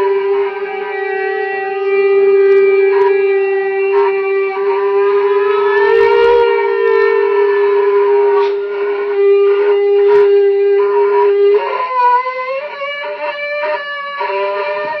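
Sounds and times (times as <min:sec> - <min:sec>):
shofar blasts: 0:00.0 - 0:15.0.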